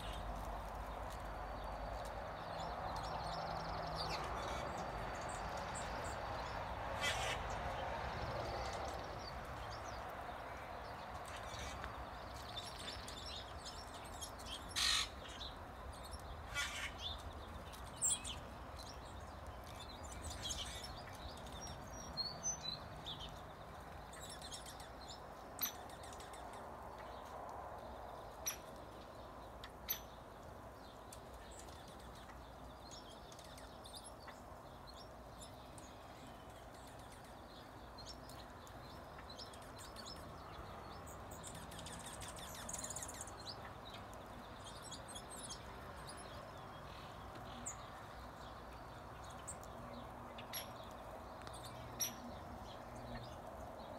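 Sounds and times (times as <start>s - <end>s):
faint steady background noise: 0.0s - 53.9s
small songbirds chirping: 0.0s - 53.9s.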